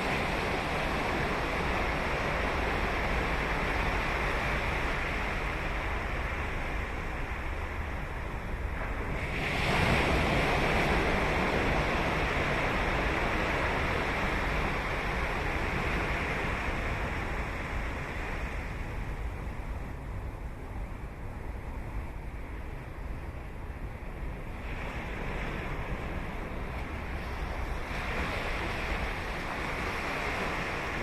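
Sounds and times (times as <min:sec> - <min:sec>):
ocean waves washing: 0:00.0 - 0:31.0.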